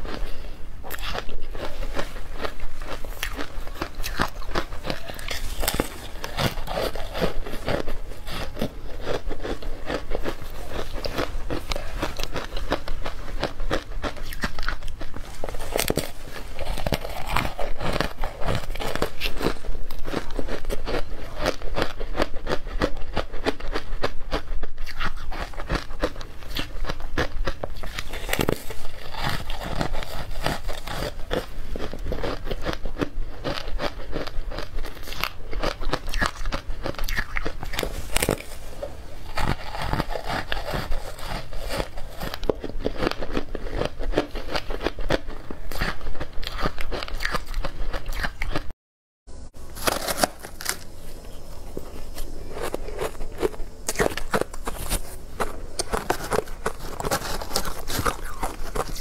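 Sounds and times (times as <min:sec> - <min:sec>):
crunching ice while chewing: 0:00.0 - 0:48.7, 0:49.6 - 0:59.0.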